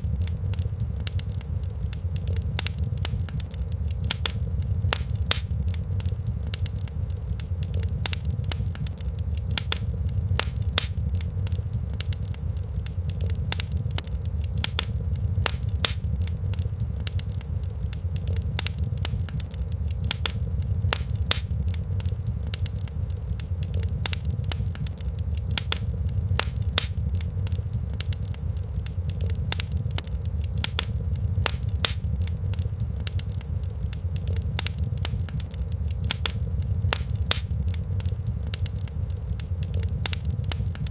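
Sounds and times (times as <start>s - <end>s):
low rumble: 0.0s - 40.9s
wood fire crackling: 0.0s - 40.9s.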